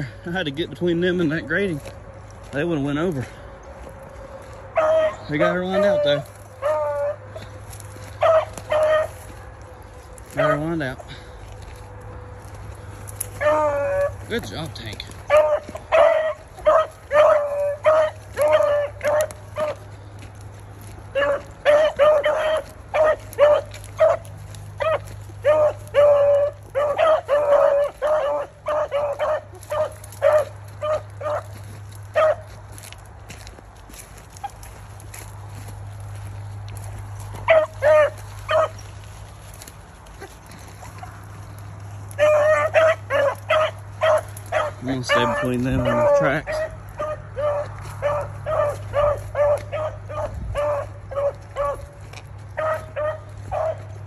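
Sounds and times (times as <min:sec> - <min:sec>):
hound barking and bawling: 0:03.7 - 0:54.0.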